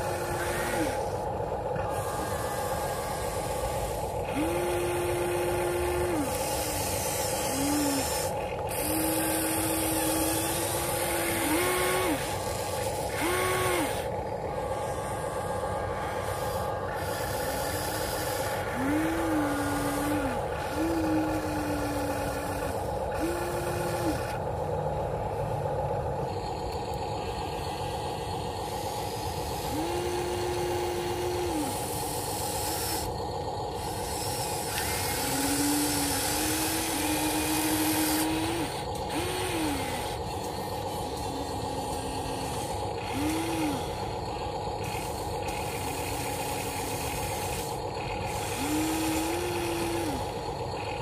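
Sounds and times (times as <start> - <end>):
steady hum: 0.0 - 51.0
toy excavator motors whining: 0.0 - 51.0.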